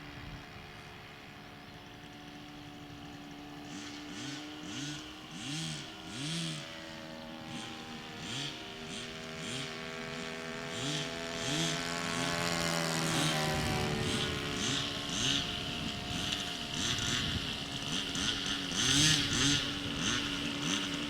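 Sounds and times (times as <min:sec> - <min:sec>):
model aeroplane engine droning: 0:00.0 - 0:21.0.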